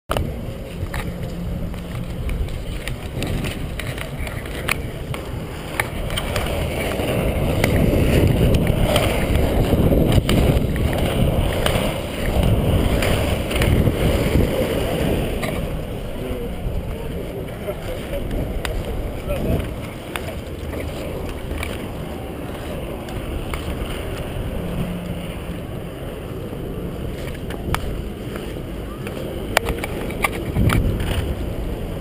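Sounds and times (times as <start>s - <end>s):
skate wheels rolling on asphalt: 0.1s - 32.0s
wind buffeting microphone: 0.1s - 32.0s.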